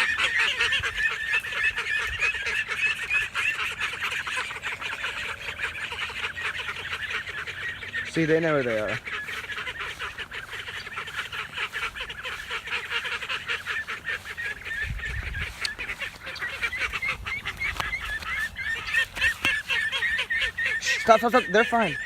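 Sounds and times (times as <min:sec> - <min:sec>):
ducks and ducklings calling: 0:00.0 - 0:22.0.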